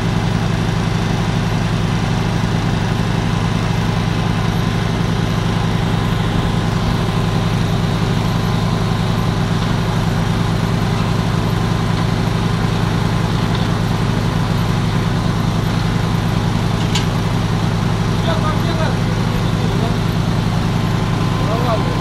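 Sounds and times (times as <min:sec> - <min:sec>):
drilling rig engine running: 0:00.0 - 0:22.0.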